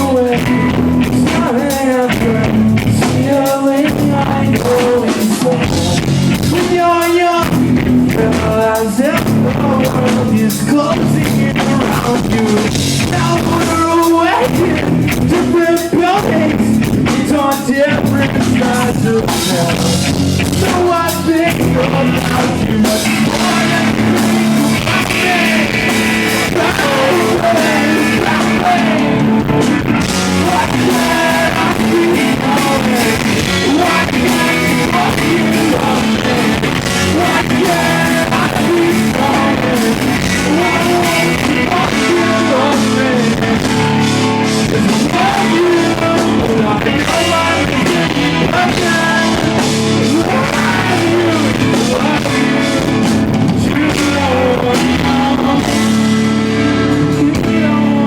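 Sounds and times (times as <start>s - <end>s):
drum kit: 0.0s - 58.0s
electric guitars: 0.0s - 58.0s
person singing: 0.0s - 58.0s.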